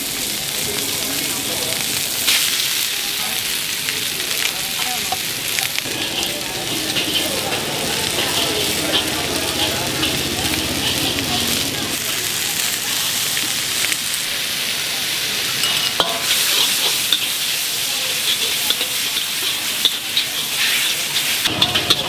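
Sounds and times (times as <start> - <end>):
noodles sizzling in wok: 0.0 - 22.0
metal utensil scraping wok: 1.8 - 22.0.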